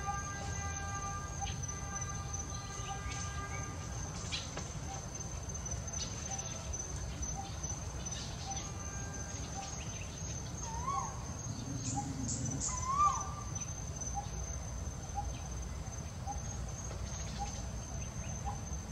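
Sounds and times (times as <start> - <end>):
faint pitched hum: 0.0 - 18.9
high-pitched insect drone: 0.0 - 18.9.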